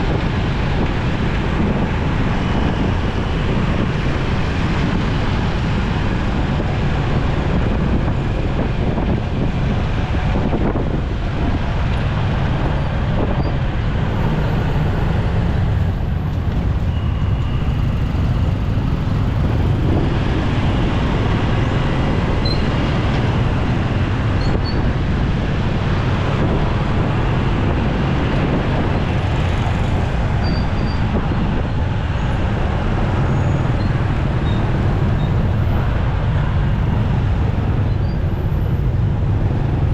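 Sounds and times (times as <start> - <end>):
motorcycle engine and road noise: 0.0 - 39.9
surrounding traffic: 0.0 - 39.9.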